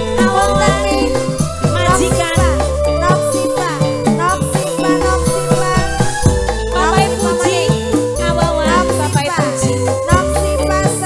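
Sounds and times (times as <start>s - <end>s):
deep bass: 0.0s - 11.0s
hand drum strokes: 0.0s - 11.0s
organ melody: 0.0s - 11.0s.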